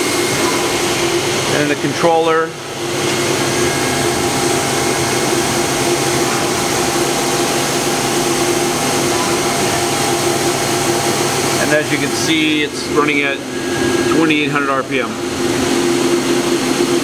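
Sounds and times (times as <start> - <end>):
machine tool humming: 0.0 - 17.0.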